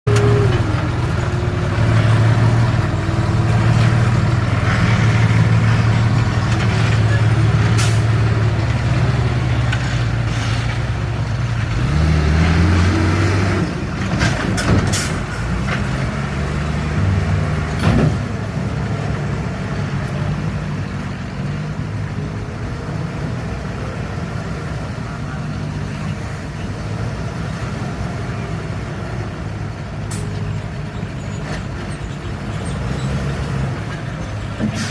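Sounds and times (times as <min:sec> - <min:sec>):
heavy diesel engines under load: 0:00.0 - 0:34.9.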